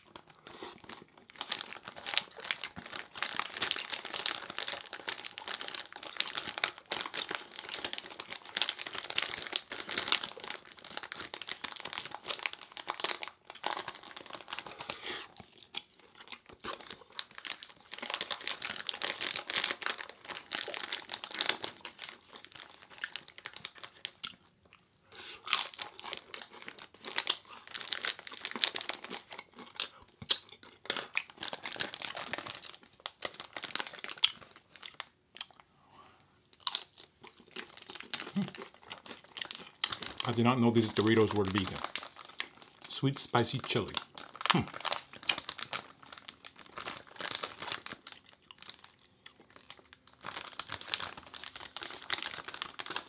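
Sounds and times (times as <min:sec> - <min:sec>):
crunching tortilla chips: 0:00.0 - 0:35.6, 0:36.6 - 0:53.0.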